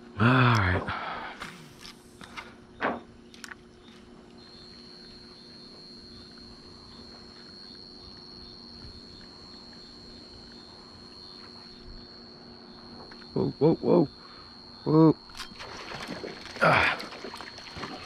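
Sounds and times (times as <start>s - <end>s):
faint low hum: 0.0s - 18.0s
high-pitched insect trill: 3.3s - 18.0s.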